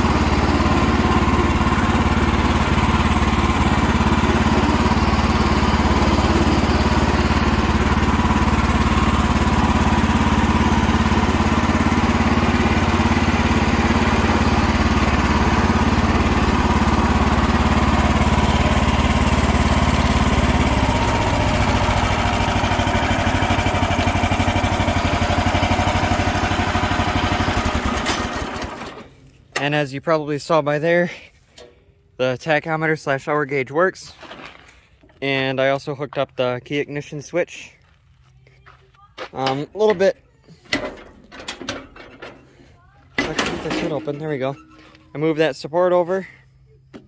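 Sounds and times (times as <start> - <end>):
garden tractor engine running: 0.0 - 47.0.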